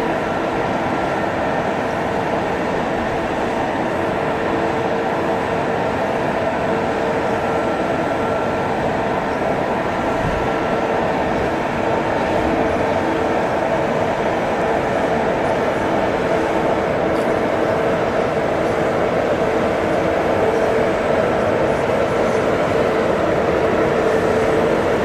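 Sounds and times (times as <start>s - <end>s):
electric locomotive humming: 0.0s - 25.0s.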